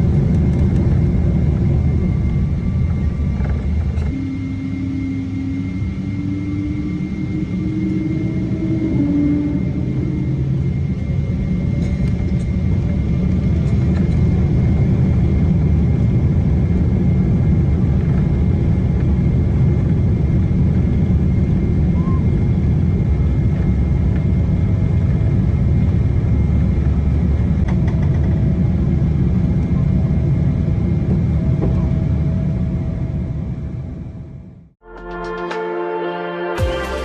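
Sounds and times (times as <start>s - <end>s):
jet engines rumbling: 0.0s - 34.7s.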